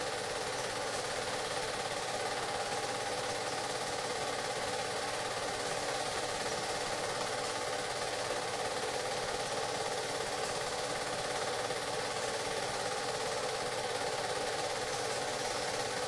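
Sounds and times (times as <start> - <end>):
small machine clattering: 0.0 - 16.0.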